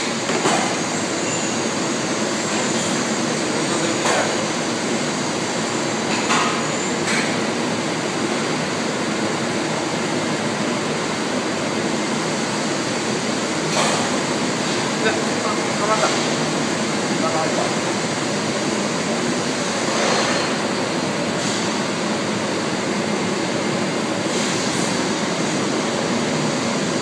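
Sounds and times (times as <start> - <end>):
factory machinery and ventilation hum: 0.0 - 27.0.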